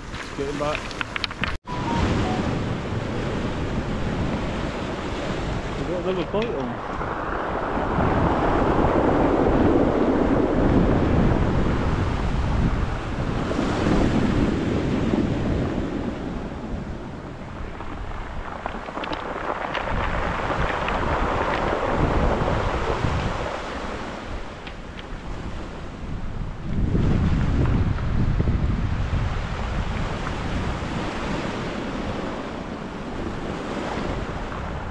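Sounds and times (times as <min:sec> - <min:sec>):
waves washing up pebbles: 0:00.0 - 0:34.9
wind buffeting microphone: 0:00.0 - 0:34.9.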